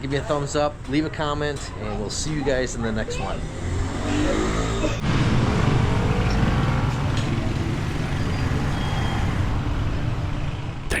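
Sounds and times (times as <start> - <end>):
road traffic rumble: 1.9 - 11.0.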